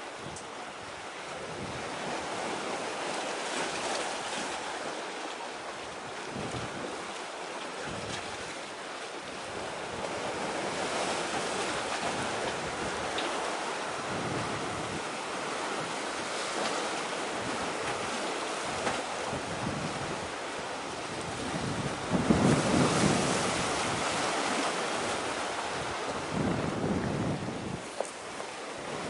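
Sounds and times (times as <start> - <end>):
sea waves breaking: 0.0 - 29.0
wind buffeting microphone: 0.2 - 3.0, 5.9 - 7.1, 7.8 - 8.5, 9.3 - 29.0.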